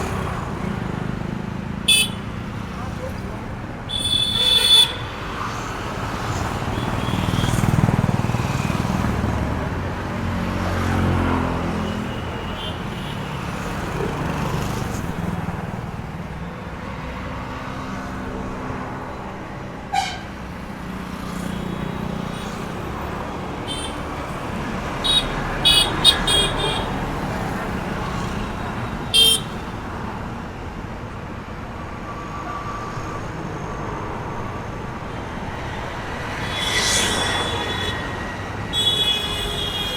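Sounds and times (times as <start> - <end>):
roadside traffic: 0.0 - 39.9.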